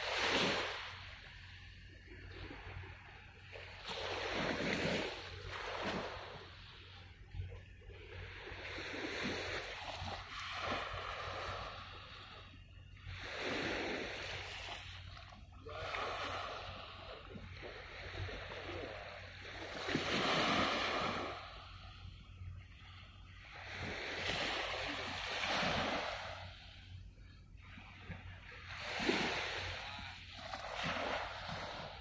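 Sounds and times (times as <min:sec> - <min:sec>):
small waves washing on shore: 0:00.0 - 0:32.0.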